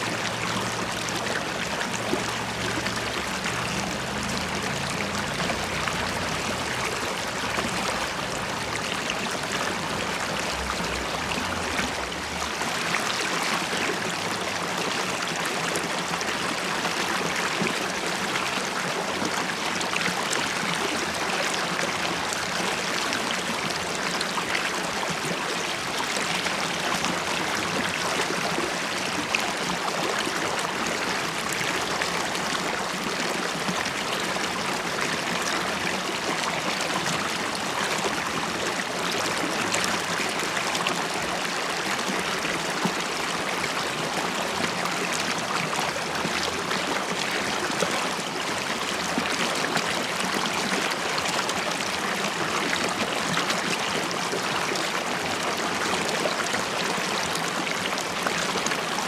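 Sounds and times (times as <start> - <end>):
river water flowing and bubbling: 0.0 - 59.0.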